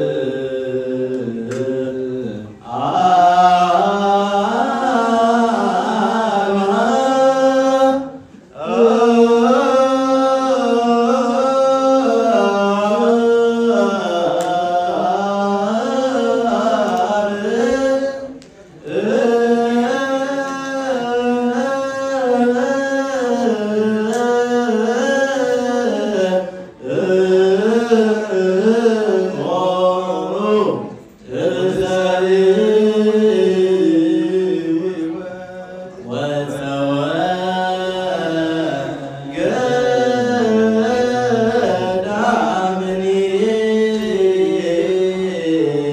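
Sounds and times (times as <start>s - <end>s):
men singing a hymn through a pa: 0.0s - 45.9s.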